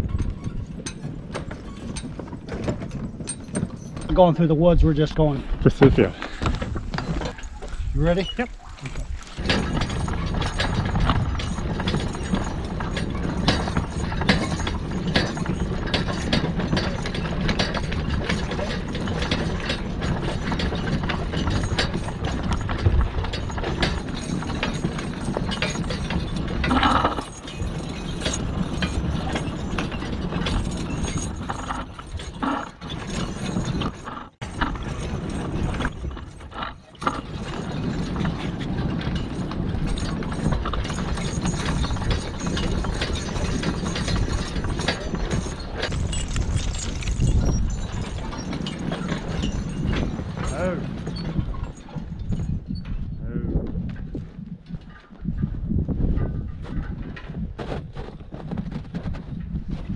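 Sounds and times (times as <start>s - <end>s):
cart and harness rattling: 0.0s - 59.9s
horse hoofbeats: 0.0s - 59.9s.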